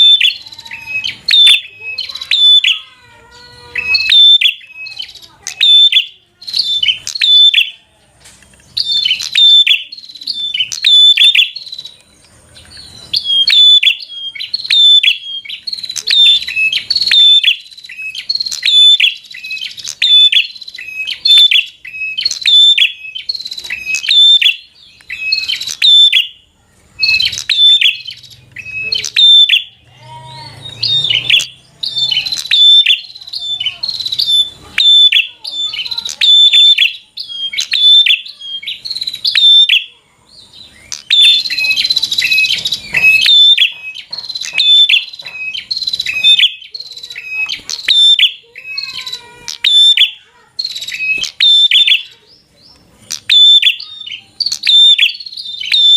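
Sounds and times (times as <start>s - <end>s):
bird singing sharp chirps: 0.0s - 55.9s.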